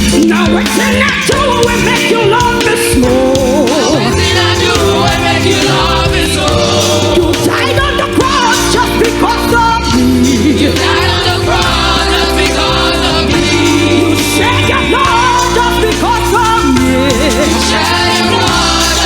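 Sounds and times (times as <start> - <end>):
bass: 0.0 - 19.0
choir singing gospel song: 0.0 - 19.0
drums: 0.0 - 19.0
keyboard chords: 0.0 - 19.0.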